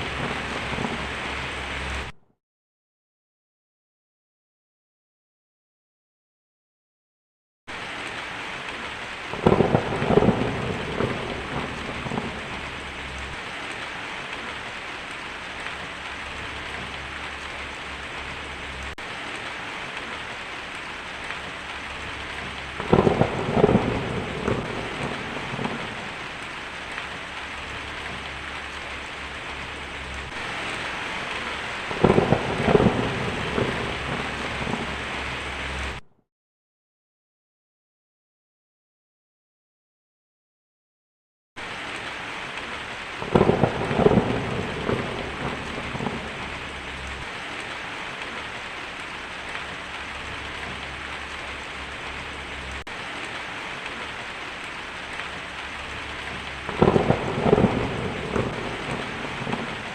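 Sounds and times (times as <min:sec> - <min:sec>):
heavy rain on a tin roof: 0:00.0 - 0:02.2, 0:07.7 - 0:36.0, 0:41.6 - 0:59.9
thunder cracking and rumbling: 0:00.0 - 0:02.2, 0:07.8 - 0:36.0, 0:41.8 - 0:59.9.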